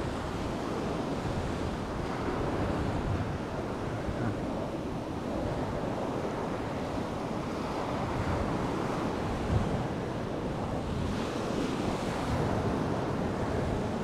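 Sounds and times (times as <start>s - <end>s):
surf washing up beach: 0.0s - 14.0s
wind buffeting microphone: 0.0s - 14.0s.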